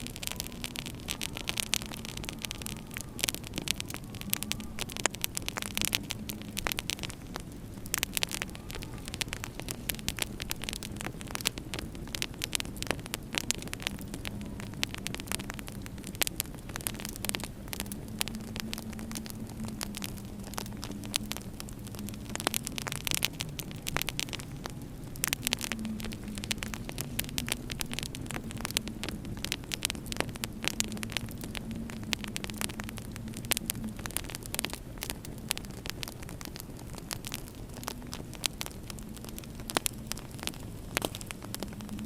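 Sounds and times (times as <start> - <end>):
steady low hum: 0.0 - 42.0
wood fire crackling: 0.0 - 42.0.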